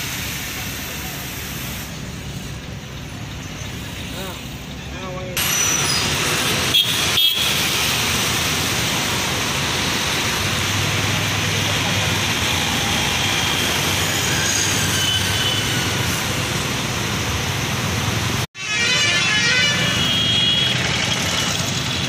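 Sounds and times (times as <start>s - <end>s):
bus engines running: 0.0s - 22.0s
road traffic: 0.0s - 22.0s.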